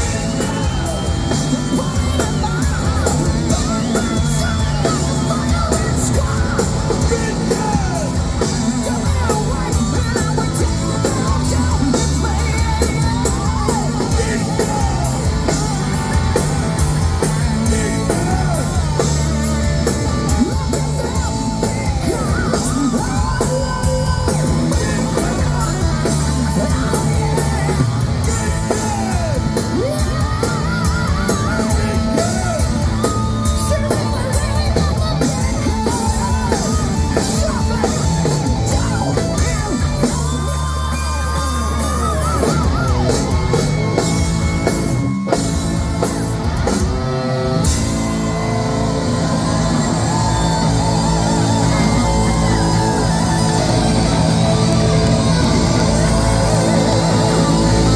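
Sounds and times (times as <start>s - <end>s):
hard rock band playing live: 0.0s - 57.9s
man singing lead vocal: 0.0s - 57.9s.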